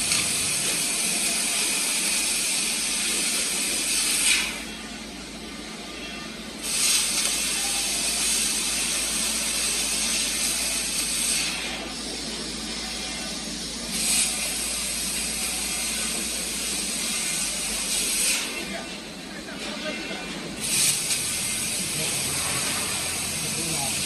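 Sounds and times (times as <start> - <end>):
welding arc hissing: 0.0 - 5.8, 6.5 - 19.0, 20.6 - 24.0.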